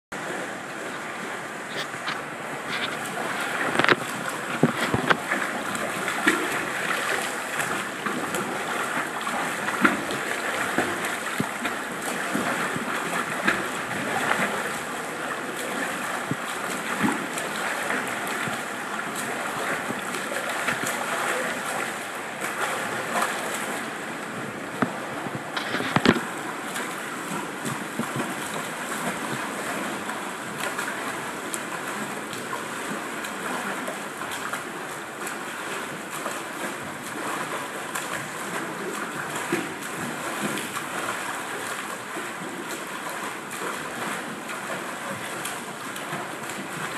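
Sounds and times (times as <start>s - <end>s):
swimmer splashing in pool: 0.2s - 46.9s.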